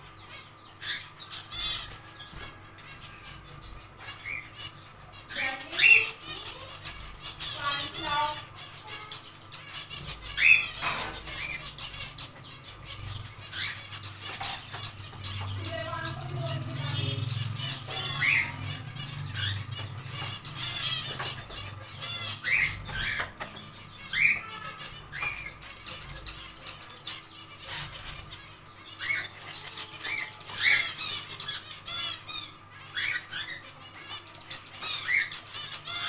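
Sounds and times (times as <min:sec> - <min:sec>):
finches calling: 0:00.0 - 0:36.0.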